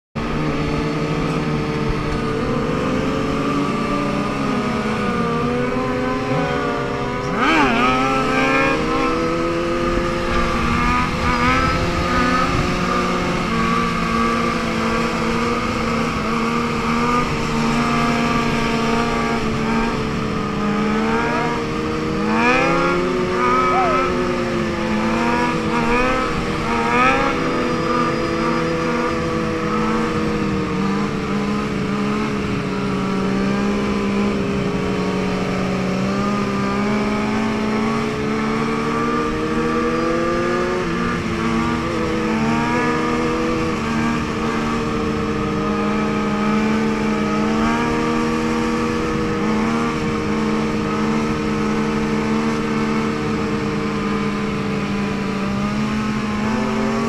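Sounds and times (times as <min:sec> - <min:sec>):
motorbike engines revving: 0:00.2 - 0:57.0.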